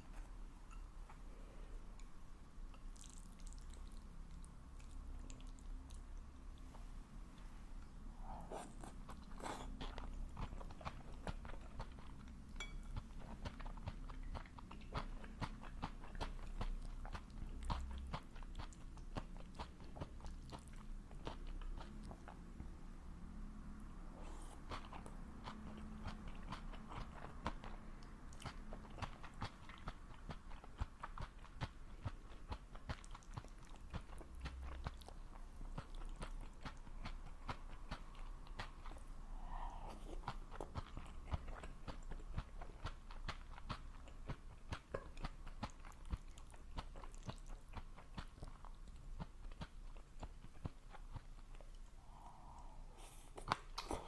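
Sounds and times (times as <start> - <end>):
person chewing crunchy food: 2.7 - 6.6, 8.4 - 22.4, 24.2 - 54.0.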